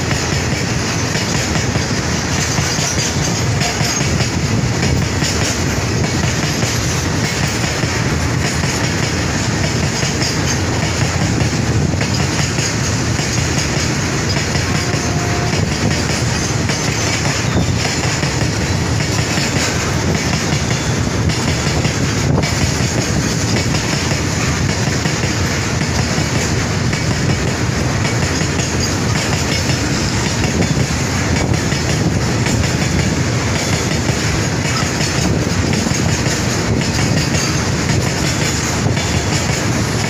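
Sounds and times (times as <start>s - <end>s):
goods train rolling past: 0.0s - 40.0s.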